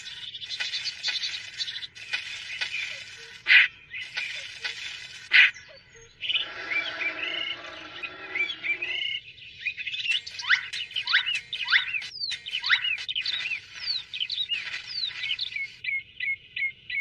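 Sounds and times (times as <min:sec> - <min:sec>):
busy chirping: 0:00.0 - 0:17.0
squeaky bird-like chirps: 0:00.0 - 0:17.0.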